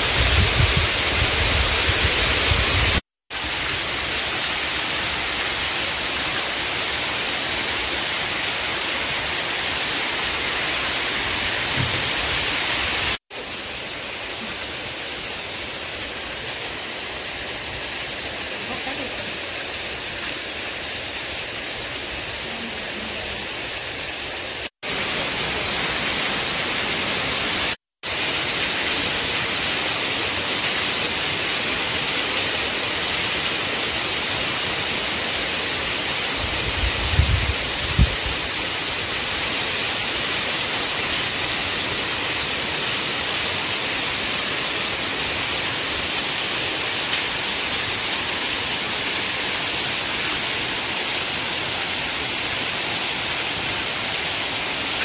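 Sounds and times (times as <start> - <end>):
heavy rain pouring on leaves: 0.0 - 55.0.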